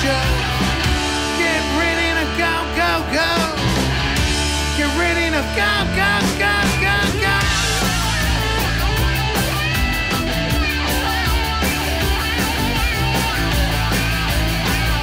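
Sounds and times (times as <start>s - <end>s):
bending sliding guitar lead: 0.0s - 15.0s
punk rock band playing: 0.0s - 15.0s.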